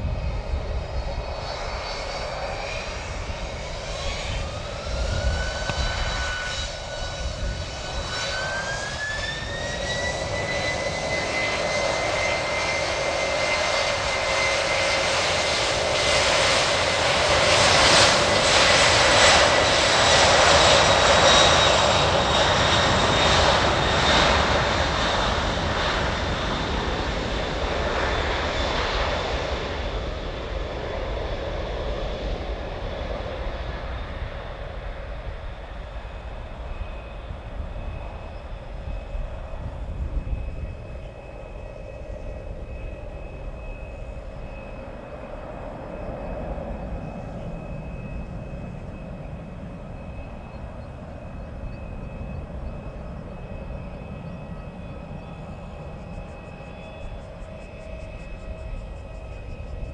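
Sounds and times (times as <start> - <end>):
jet engines whine and roar: 0.0 - 59.9.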